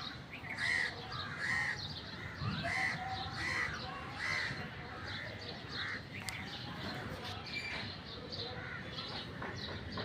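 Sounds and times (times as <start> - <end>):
bird harsh calls: 0.0 - 10.0
outdoor background noise: 0.0 - 10.0.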